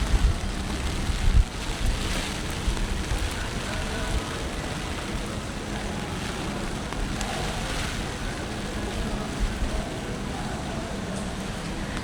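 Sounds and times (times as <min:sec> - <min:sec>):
wind buffeting microphone: 0:00.0 - 0:11.0
rain: 0:00.0 - 0:12.0.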